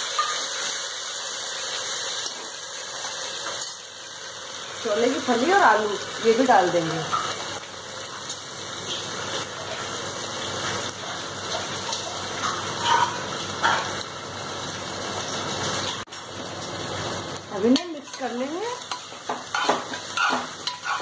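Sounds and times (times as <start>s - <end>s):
hot oil sizzling: 0.0s - 21.0s.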